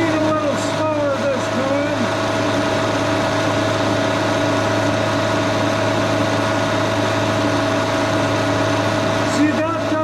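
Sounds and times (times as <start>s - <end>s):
milling machine humming: 0.0s - 10.0s.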